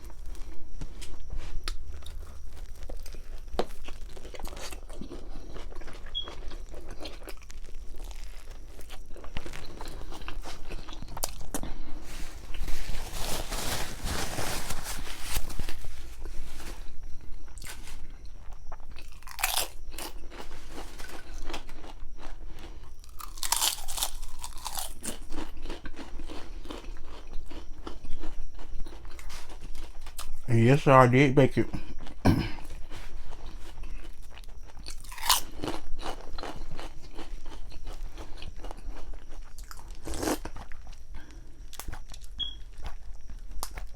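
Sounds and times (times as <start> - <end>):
chewing and crunching sandwich: 0.0 - 30.9, 31.5 - 43.9.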